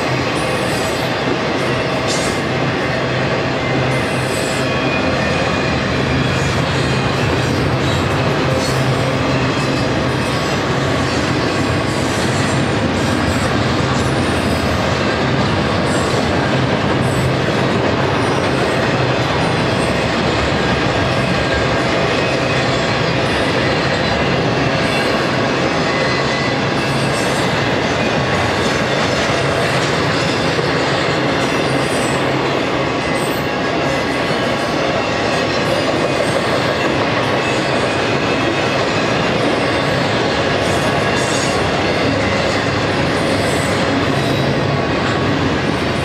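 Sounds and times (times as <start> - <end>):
steel wheels rolling on rail: 0.0 - 46.0.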